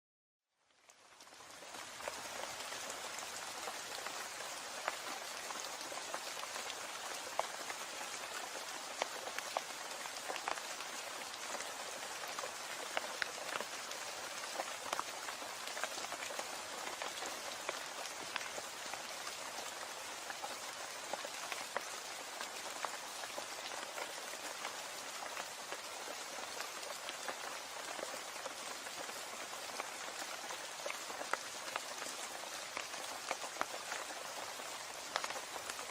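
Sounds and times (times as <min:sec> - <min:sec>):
raindrops ticking close by: 0:00.6 - 0:35.9.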